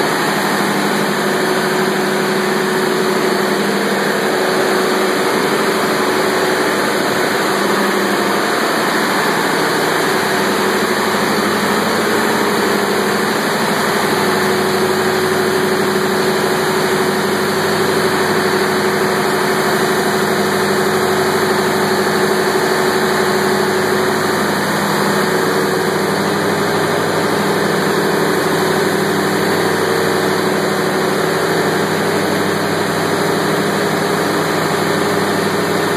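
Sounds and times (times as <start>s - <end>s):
machinery humming loudly: 0.0s - 35.9s.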